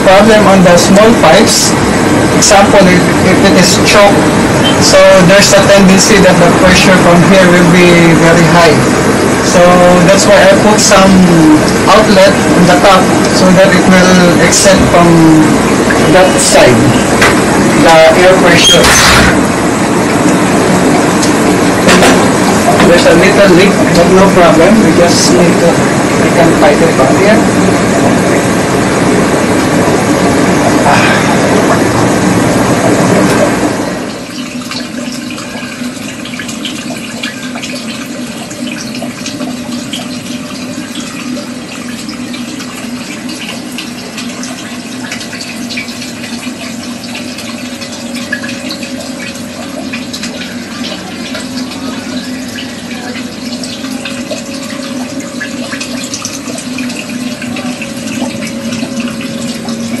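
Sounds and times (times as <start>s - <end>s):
water trickling through pipes: 0.0s - 60.0s.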